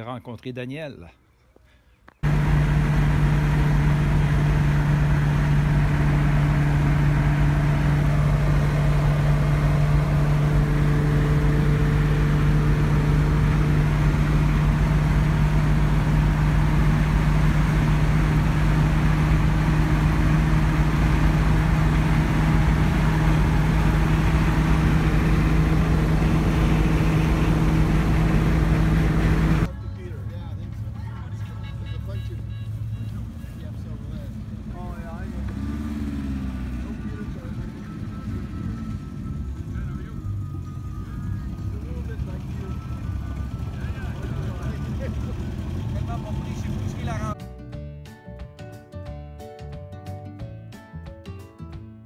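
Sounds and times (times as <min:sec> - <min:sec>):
car engine running steadily: 0:02.1 - 0:47.4.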